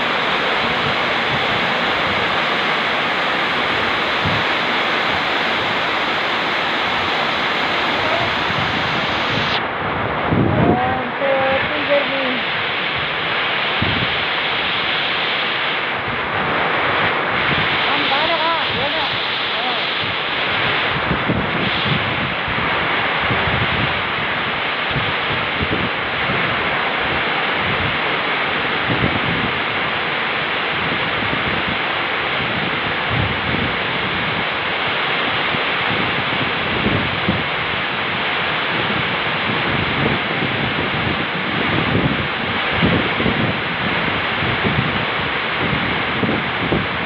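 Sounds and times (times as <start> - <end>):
wind on the microphone: 0.0 - 47.0.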